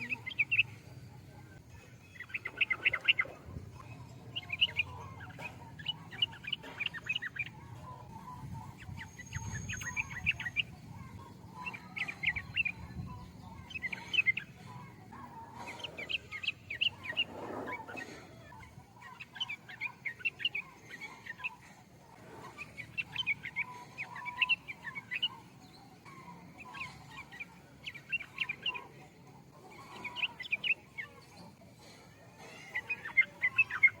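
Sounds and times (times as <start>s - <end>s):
bird chirpy song: 0.0s - 34.0s.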